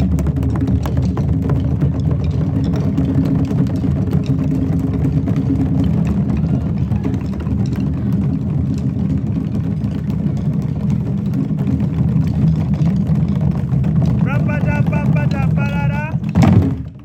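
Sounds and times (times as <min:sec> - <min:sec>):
hand drums rolling: 0:00.0 - 0:17.0.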